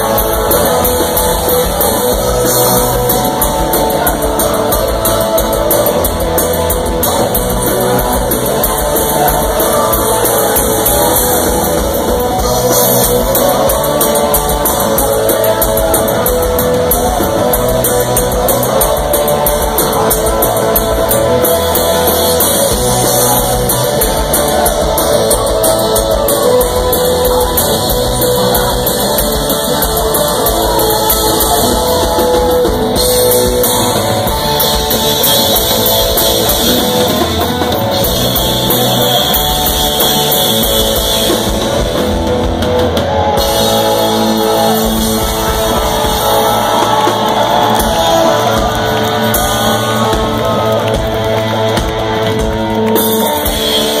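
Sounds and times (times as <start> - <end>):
distorted electric guitar: 0.0 - 54.0
drum kit beat: 0.0 - 54.0.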